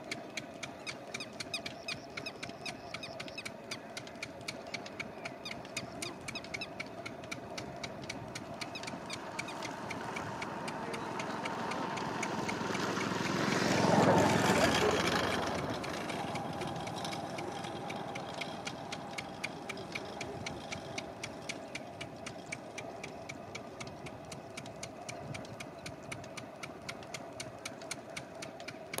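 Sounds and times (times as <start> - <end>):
faint steady hum: 0.0 - 29.0
steady ticking: 0.0 - 29.0
broad noise: 1.1 - 29.0.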